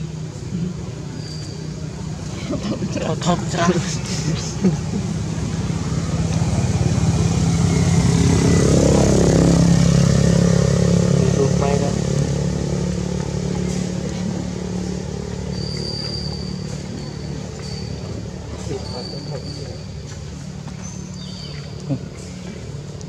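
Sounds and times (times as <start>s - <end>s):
vehicle engine passing by: 0.3s - 23.0s.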